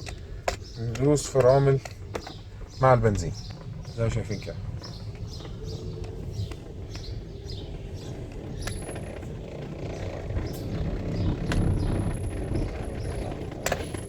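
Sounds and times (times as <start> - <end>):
car engine and rolling rumble: 0.0 - 14.0.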